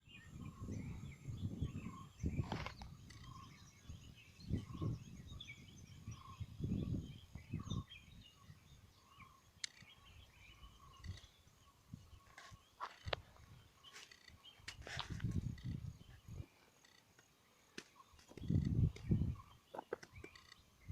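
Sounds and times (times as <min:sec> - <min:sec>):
birds chirping: 0:00.0 - 0:20.9
wind buffeting microphone: 0:00.1 - 0:16.5, 0:18.3 - 0:20.9.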